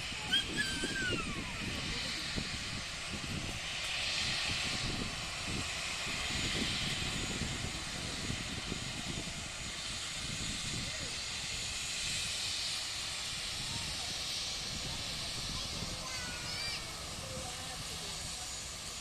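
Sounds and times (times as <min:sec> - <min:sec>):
distant jet engines at takeoff: 0:00.0 - 0:19.0.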